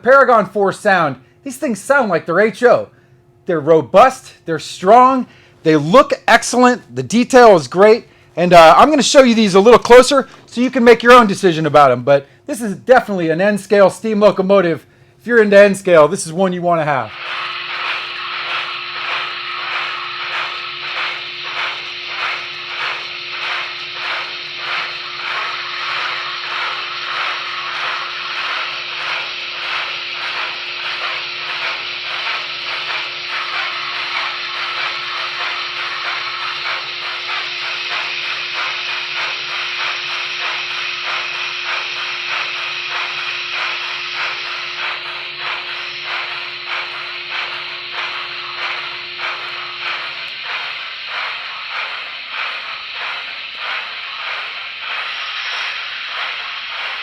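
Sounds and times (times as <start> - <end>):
steady hum: 0.0 - 57.0
steam locomotive chuffing from speaker: 3.9 - 57.0.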